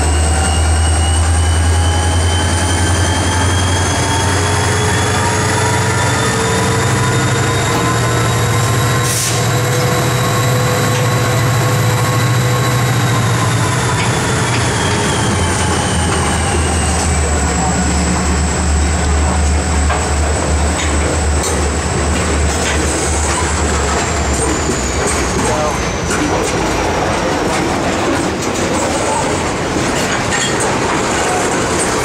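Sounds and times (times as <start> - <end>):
high wheel squeal: 0.0 - 27.9, 28.6 - 32.0
diesel locomotive drone: 0.0 - 32.0
freight cars rolling past: 0.0 - 32.0.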